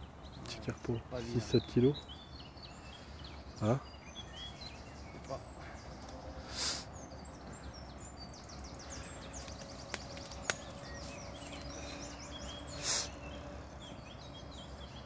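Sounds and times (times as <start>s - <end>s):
birds chirping and singing: 0.0s - 15.0s
outdoor background noise: 0.0s - 15.0s.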